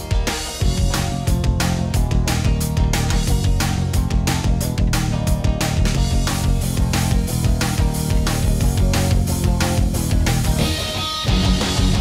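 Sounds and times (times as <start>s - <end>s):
rock music with guitars: 0.0s - 12.0s.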